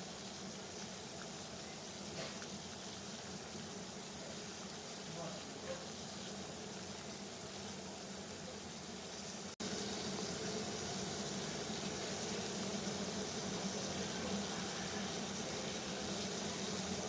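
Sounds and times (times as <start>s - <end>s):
water boiling: 0.0s - 17.0s.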